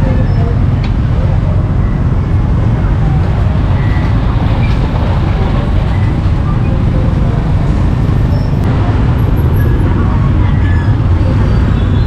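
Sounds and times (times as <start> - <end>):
faint crowd chatter: 0.0 - 12.0
street traffic rumble: 0.0 - 12.0.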